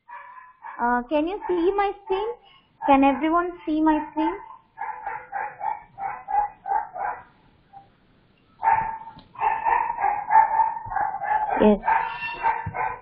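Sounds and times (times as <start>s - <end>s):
dog barking: 0.1s - 7.4s, 8.6s - 13.0s.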